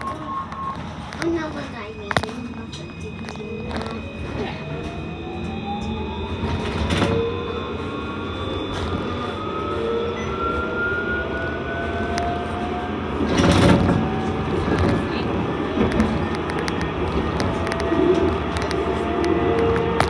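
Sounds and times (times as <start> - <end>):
traction motors whining: 0.0 - 20.0
tram running rumble: 0.0 - 20.0.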